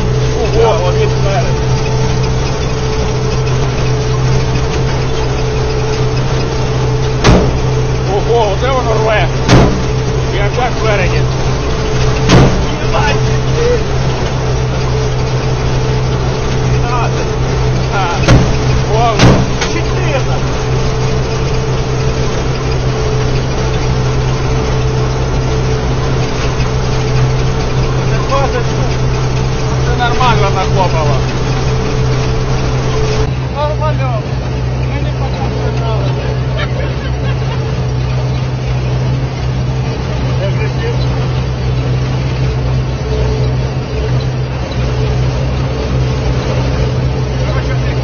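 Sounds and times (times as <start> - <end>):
steady whine: 0.0 - 48.0
tractor engine droning: 0.0 - 48.0.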